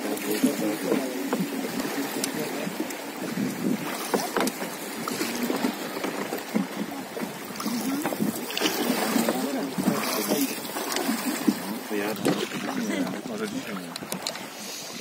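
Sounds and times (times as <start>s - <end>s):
wind buffeting microphone: 0.0s - 14.2s
wooden pole churning water: 0.0s - 14.8s
river water rushing and splashing: 0.0s - 15.0s.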